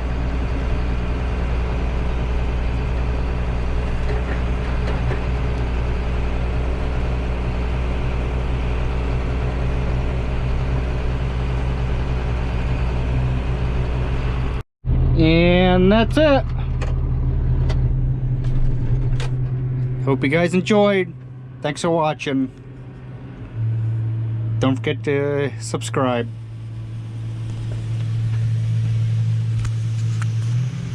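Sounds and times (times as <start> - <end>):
heavy vehicle engine droning: 0.0 - 30.9.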